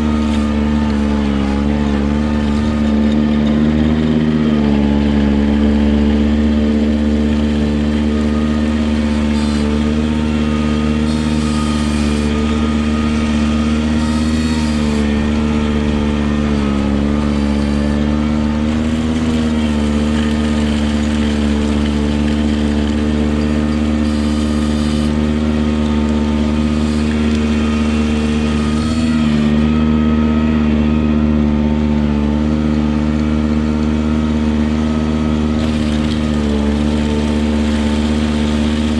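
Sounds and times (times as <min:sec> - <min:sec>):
tractor engine running fast: 0:00.0 - 0:38.9.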